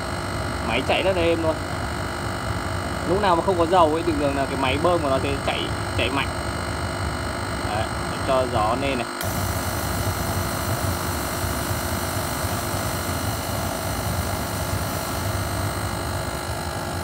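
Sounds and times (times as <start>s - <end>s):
burner fan and flame rushing hum: 0.0s - 17.0s.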